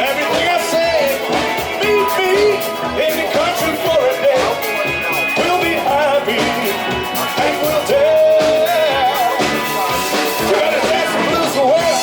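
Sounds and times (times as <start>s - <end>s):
drum beat: 0.0s - 12.0s
person singing: 0.0s - 12.0s
rock band playing live: 0.0s - 12.0s.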